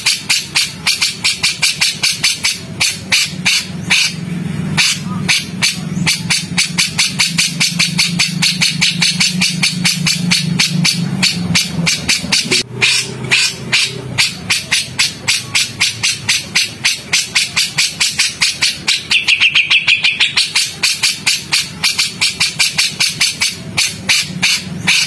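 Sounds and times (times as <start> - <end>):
songbird harsh chattering call: 0.0 - 25.0.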